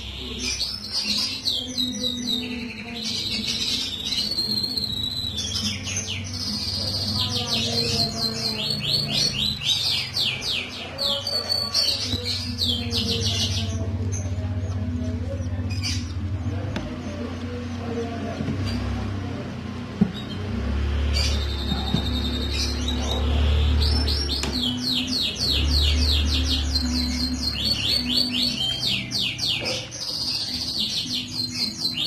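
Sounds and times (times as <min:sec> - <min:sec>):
songbird trilling and chirping: 0:00.0 - 0:19.1, 0:20.0 - 0:32.0.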